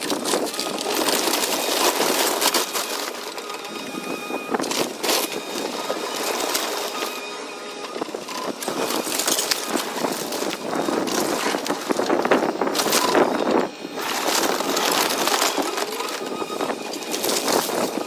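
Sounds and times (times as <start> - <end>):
excavator engine running: 0.0 - 18.0
wood debris crunching and clattering: 0.0 - 18.0.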